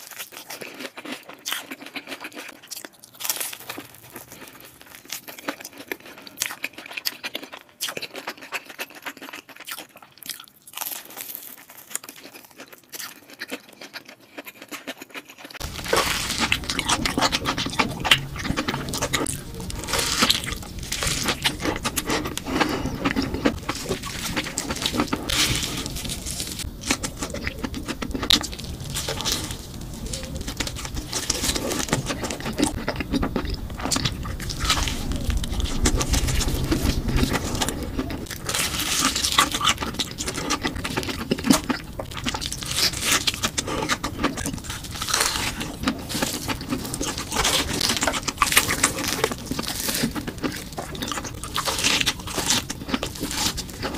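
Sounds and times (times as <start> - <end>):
crunchy bites and chewing: 0.0 - 53.9.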